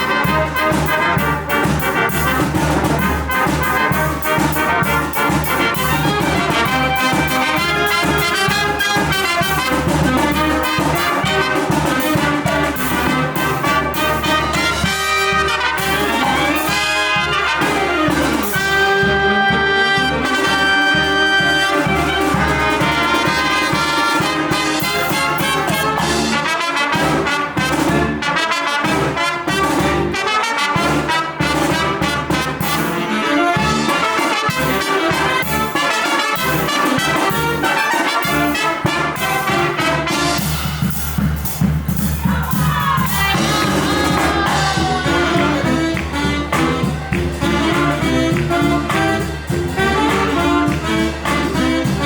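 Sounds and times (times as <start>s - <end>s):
brass band playing: 0.0s - 52.0s.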